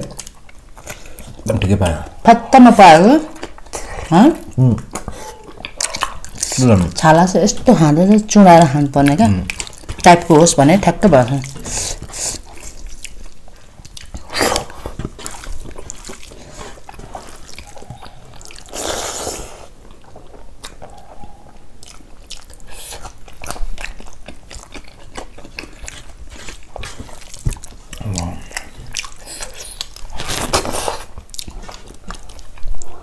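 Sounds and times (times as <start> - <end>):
chewing and biting meat: 0.0 - 2.2, 3.2 - 10.4, 11.1 - 33.0.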